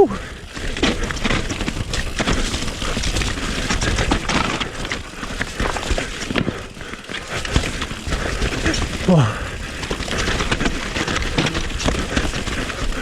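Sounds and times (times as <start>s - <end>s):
bike tyres rolling over rocks: 0.0s - 13.0s
bike clattering knocks: 0.8s - 9.0s, 9.7s - 12.6s.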